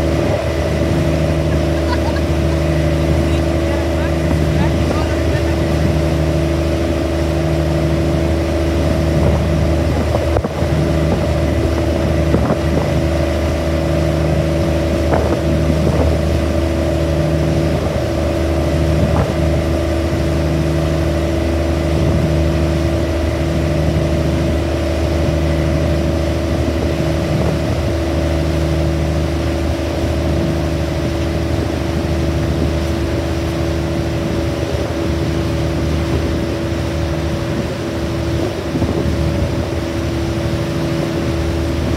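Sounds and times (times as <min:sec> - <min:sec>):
ferry engine droning: 0:00.0 - 0:41.9
low beating engine tone: 0:00.0 - 0:41.9.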